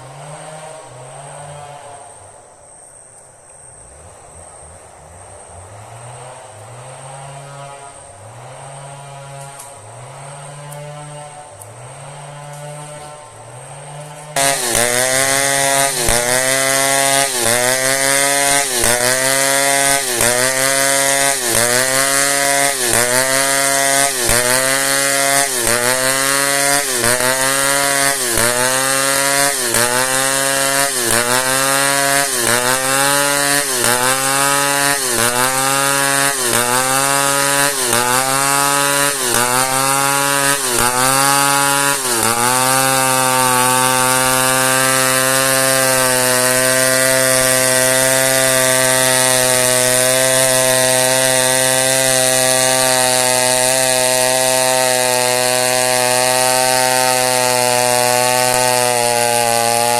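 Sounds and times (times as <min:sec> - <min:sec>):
chainsaw cutting log: 0:00.0 - 0:02.4, 0:05.3 - 0:59.9.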